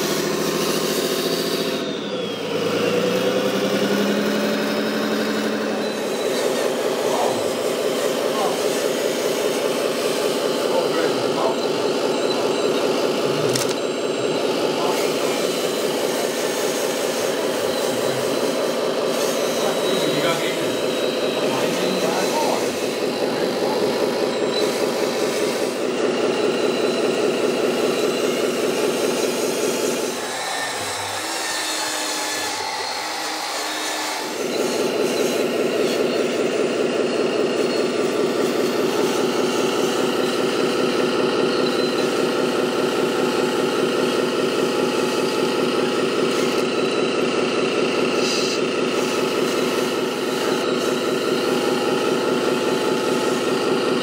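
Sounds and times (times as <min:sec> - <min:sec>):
engine running with fast pulse: 0:00.0 - 0:54.0.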